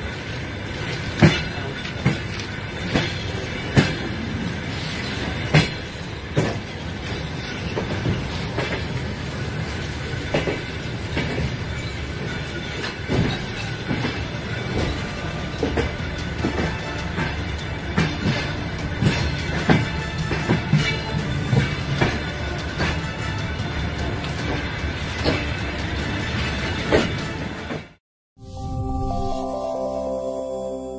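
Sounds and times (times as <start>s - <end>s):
wheel clacks over rail joints: 0.0s - 27.9s
train rumbling on track: 0.0s - 28.0s.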